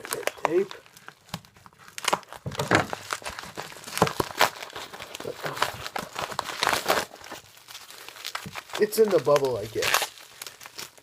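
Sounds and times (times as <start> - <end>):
packing tape tearing: 0.0 - 11.0
plastic packaging crinkling: 0.0 - 11.0.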